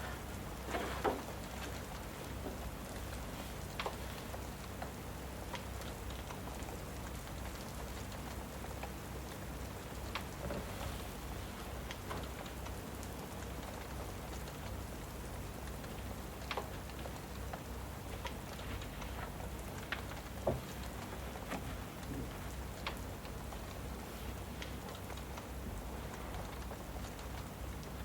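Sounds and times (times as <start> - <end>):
fireplace crackling and popping: 0.0 - 28.0
steady rain: 0.0 - 28.0.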